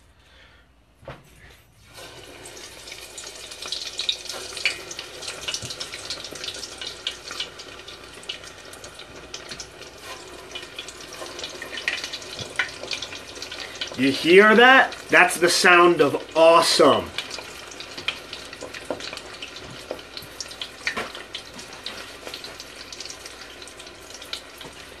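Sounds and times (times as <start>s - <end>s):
deep-frying oil sizzling and popping: 1.8s - 25.0s.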